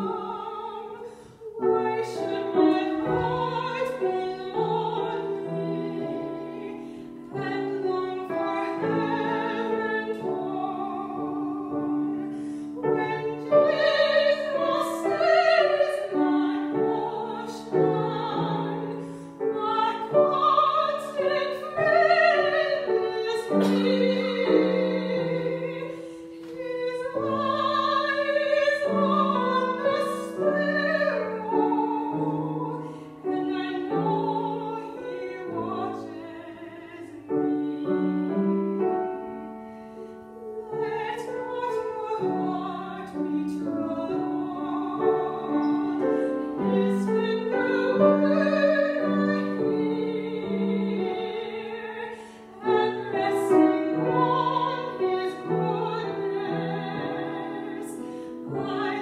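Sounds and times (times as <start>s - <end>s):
grand piano accompaniment: 0.0s - 59.0s
soprano singing: 0.0s - 59.0s.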